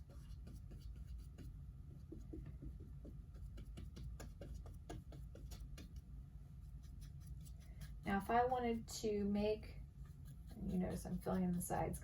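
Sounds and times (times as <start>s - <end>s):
paintbrush dabbing on canvas: 0.0s - 8.6s, 10.0s - 12.0s
low steady hum: 0.0s - 12.0s.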